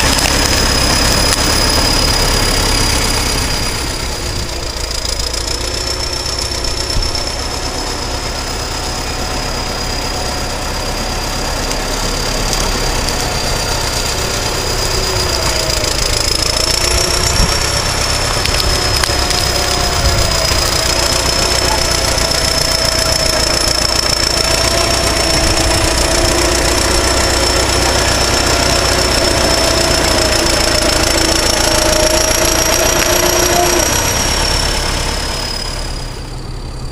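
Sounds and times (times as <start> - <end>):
bulldozer diesel engine rumble: 0.0 - 36.9
high turbocharger whistle: 0.4 - 36.9.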